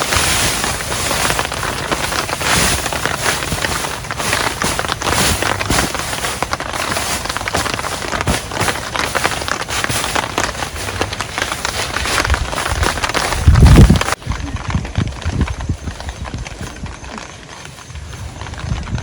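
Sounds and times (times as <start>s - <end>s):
heavy rain falling: 0.0s - 15.3s.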